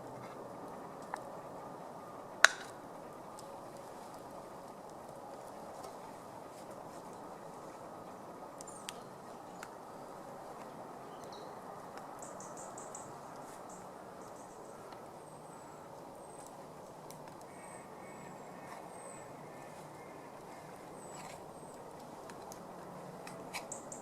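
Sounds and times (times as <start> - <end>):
small birds chirping: 0.1 - 24.0.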